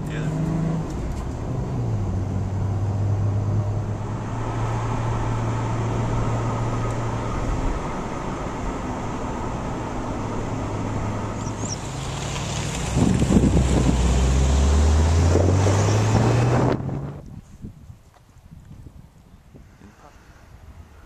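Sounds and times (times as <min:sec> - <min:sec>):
car engine hum: 0:00.0 - 0:17.3
road rumble: 0:00.0 - 0:21.0.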